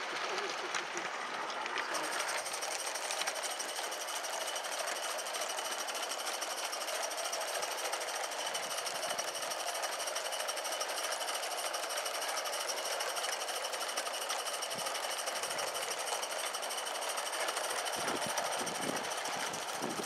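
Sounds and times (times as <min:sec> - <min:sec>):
model steam locomotive chuffing: 0:00.0 - 0:20.0.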